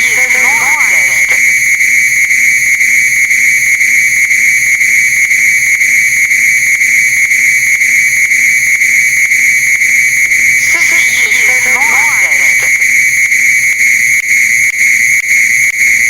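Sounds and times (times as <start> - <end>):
fire alarm high-pitched tone: 0.0 - 16.0.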